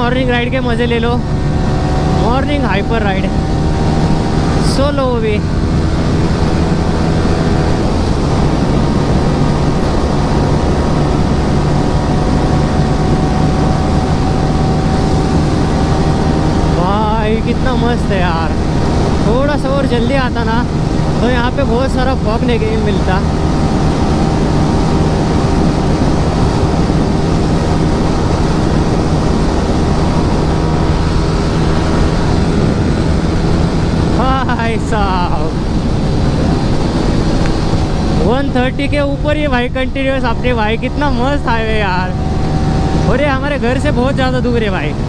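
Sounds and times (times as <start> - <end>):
motorcycle engine cruising: 0.0 - 45.0
wind and road noise: 0.0 - 45.0.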